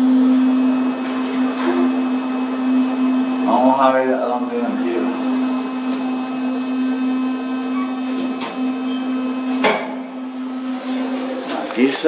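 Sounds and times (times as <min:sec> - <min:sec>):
elevator mechanical hum: 0:00.0 - 0:12.0.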